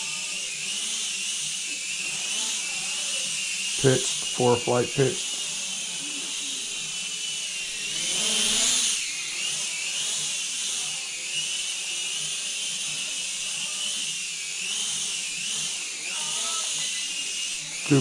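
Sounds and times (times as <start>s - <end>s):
quadcopter propeller whine: 0.0s - 18.0s.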